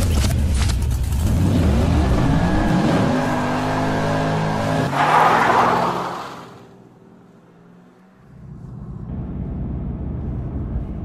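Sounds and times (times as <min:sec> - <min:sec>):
car engine revving: 0:01.0 - 0:10.0.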